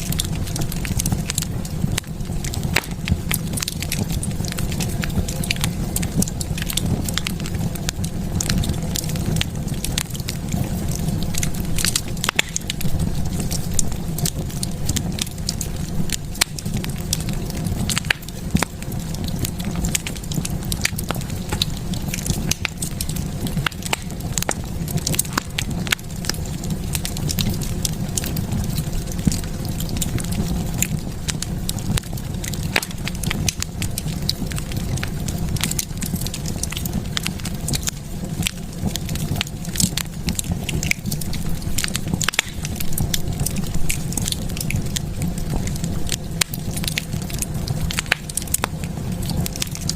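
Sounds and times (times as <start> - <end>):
fire popping: 0.0 - 49.9
wood fire crackling: 0.0 - 49.9.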